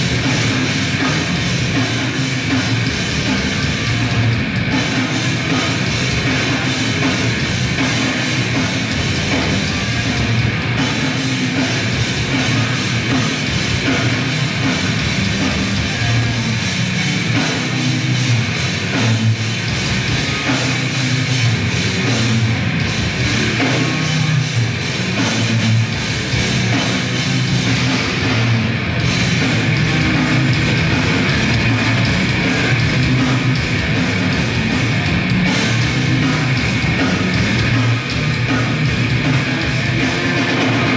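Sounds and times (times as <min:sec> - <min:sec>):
distorted electric guitar and bass: 0:00.0 - 0:40.9
fast dense drumming: 0:00.0 - 0:40.9.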